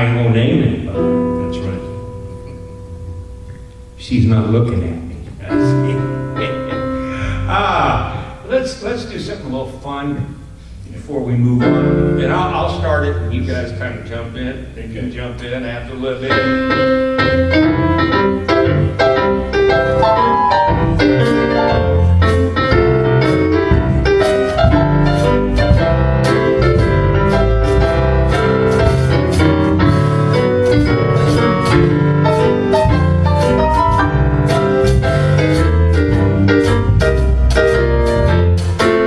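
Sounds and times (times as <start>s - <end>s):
piano playing a tune: 0.0s - 9.8s, 11.2s - 39.0s.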